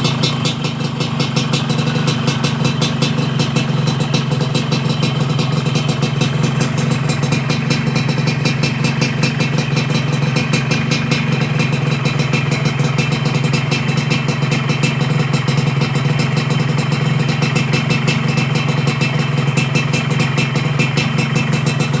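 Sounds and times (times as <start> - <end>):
two-stroke engine idling: 0.0 - 22.0.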